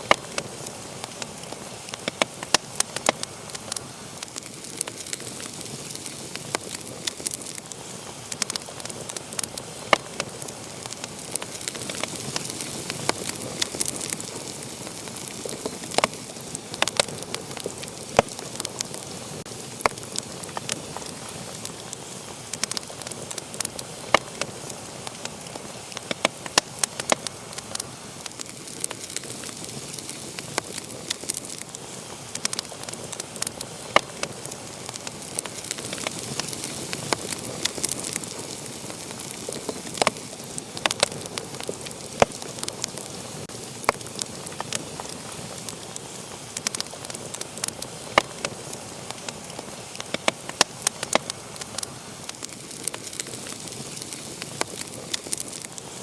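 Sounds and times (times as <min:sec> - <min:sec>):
wood fire crackling and hissing: 0:00.0 - 0:56.0.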